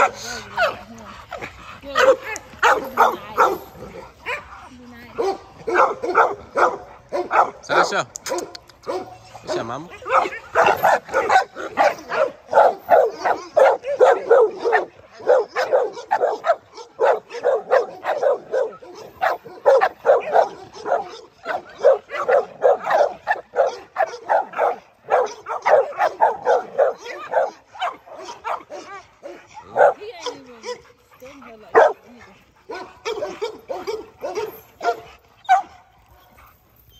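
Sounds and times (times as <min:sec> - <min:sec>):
dogs barking rapidly: 0:00.0 - 0:36.4.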